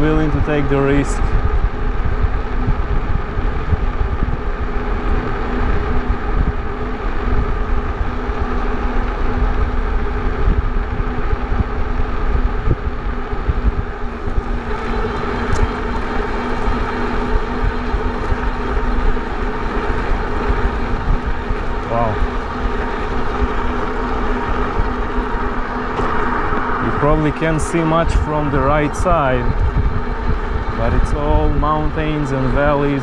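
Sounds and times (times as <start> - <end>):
electric motor hum: 0.0 - 33.0
wind rushing over microphone: 0.0 - 33.0
tyre noise on road: 1.7 - 33.0.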